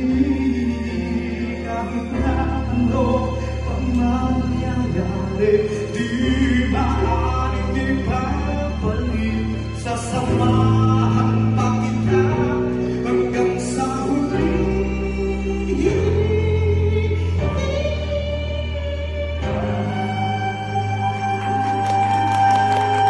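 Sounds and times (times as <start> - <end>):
backing music with deep bass: 0.0 - 23.0
man singing into microphone: 0.0 - 23.0.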